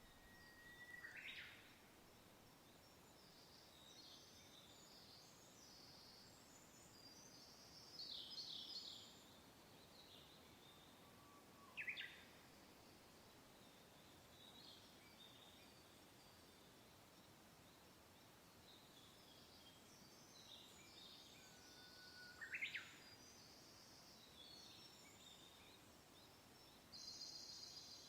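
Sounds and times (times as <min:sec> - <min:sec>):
small birds singing: 0:00.0 - 0:28.0.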